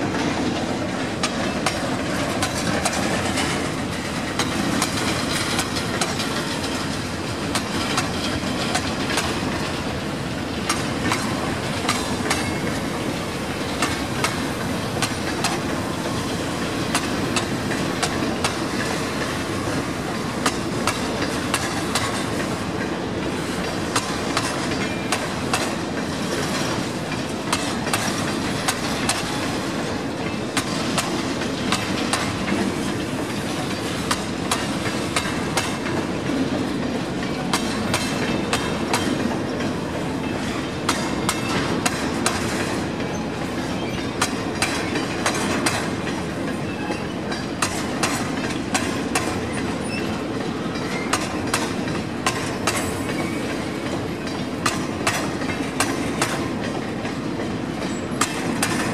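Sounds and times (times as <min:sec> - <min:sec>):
train rumble: 0:00.0 - 0:58.9
wheels clacking over rail joints: 0:00.0 - 0:58.9.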